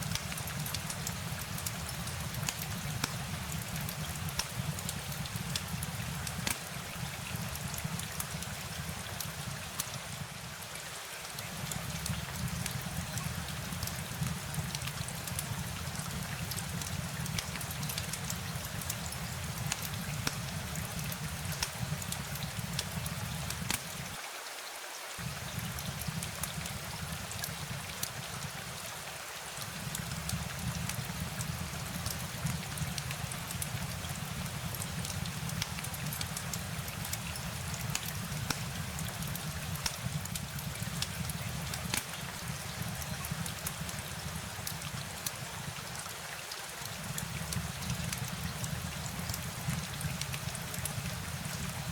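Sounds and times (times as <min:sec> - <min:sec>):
rain drops hissing and ticking: 0:00.0 - 0:51.9.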